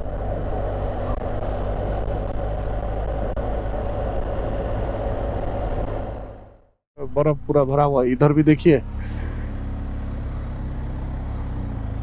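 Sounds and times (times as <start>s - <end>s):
motorcycle engine: 0.0s - 6.8s, 8.3s - 12.0s
road noise: 0.0s - 12.0s.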